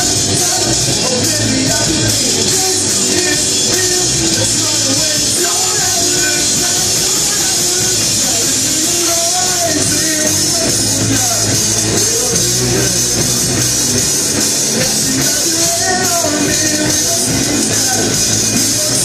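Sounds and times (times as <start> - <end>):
bass guitar: 0.0 - 19.0
drum kit: 0.0 - 19.0
electric guitars: 0.0 - 19.0
singer singing: 0.0 - 19.0.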